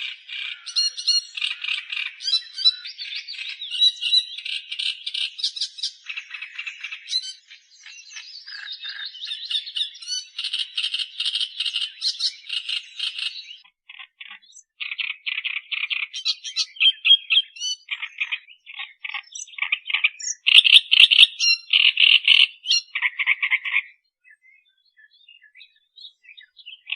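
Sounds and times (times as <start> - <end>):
warbler chattering song: 0.0 - 26.9.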